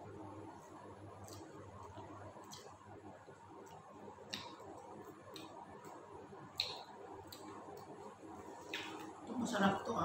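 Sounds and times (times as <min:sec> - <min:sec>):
eating clicks and smacks: 0:01.2 - 0:09.2.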